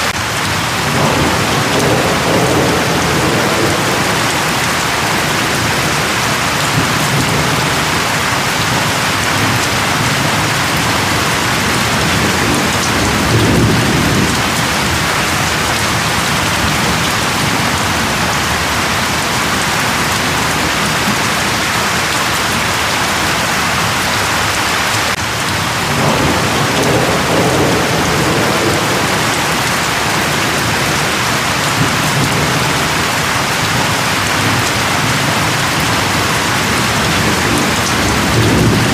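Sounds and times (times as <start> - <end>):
thunder rumbling: 0.0 - 24.2, 25.1 - 38.9
heavy rain falling: 0.0 - 38.9.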